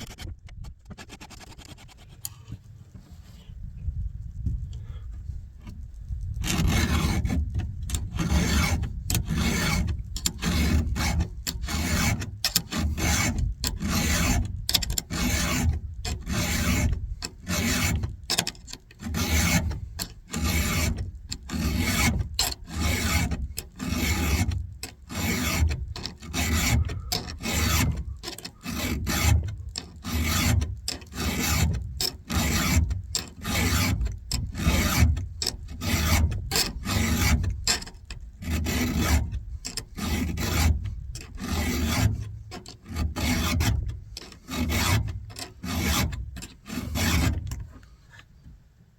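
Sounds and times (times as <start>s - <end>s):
file rasping on chainsaw chain: 0.0s - 2.5s, 6.4s - 48.2s.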